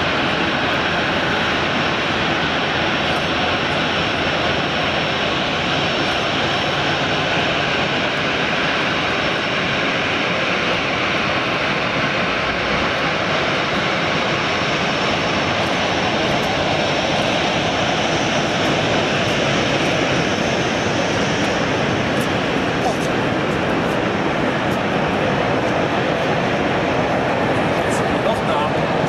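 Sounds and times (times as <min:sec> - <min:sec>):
jet engines at taxi power: 0:00.0 - 0:29.0.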